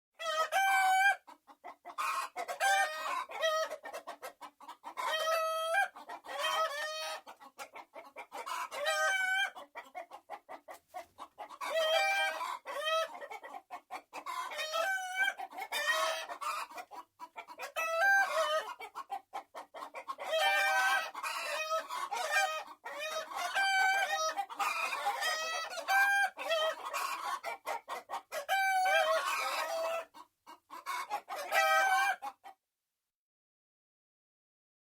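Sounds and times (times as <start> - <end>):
hens clucking and cackling: 0.2 - 32.6.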